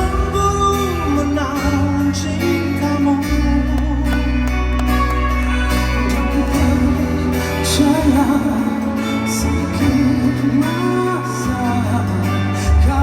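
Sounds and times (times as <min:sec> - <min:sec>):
pop song with band and singing: 0:00.0 - 0:13.0.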